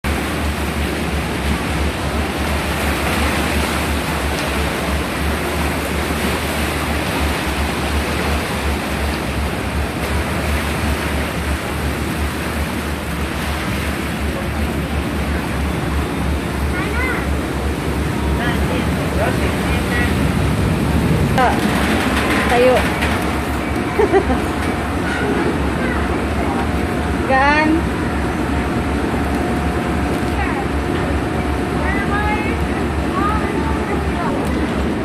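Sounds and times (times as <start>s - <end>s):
sea water rushing and splashing: 0.0s - 35.0s.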